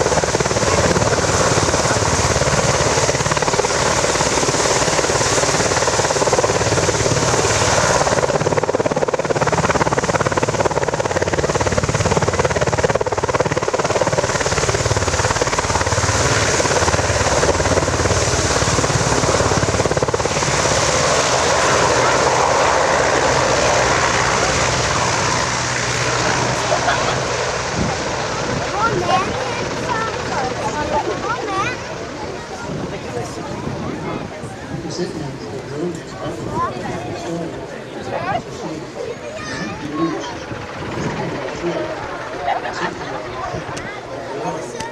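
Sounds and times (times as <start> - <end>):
helicopter turbine and rotor noise: 0.0 - 44.9.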